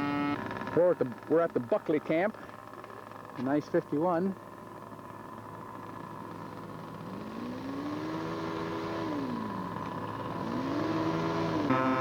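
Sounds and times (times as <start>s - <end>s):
model aircraft engine revving: 0.0s - 1.8s, 2.4s - 12.0s.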